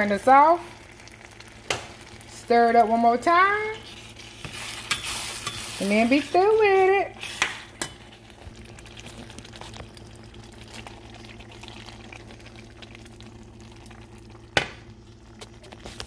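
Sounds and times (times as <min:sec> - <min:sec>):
faint steady hum: 0:00.0 - 0:16.0
sauce bubbling and crackling: 0:00.0 - 0:16.0.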